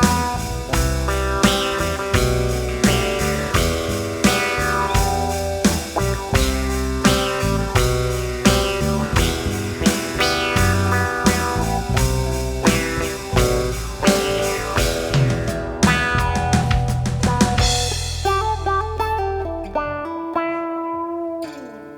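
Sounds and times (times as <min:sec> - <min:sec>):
string band playing instrumental: 0:00.0 - 0:19.8.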